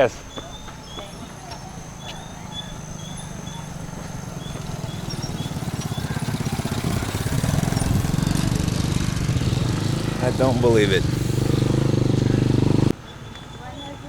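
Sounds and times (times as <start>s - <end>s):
insects chirping: 0.0s - 14.0s
small motorcycle engine: 1.1s - 13.0s.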